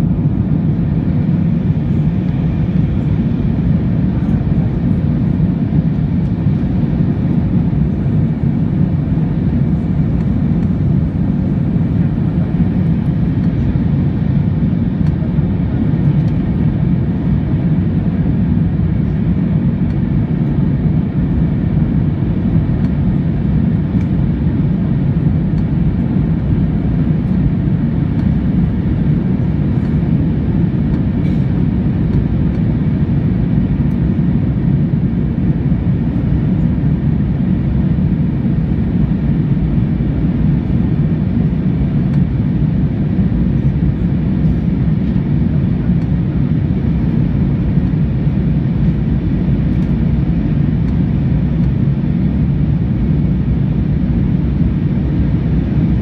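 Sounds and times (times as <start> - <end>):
airplane cabin engine noise: 0.0 - 56.0.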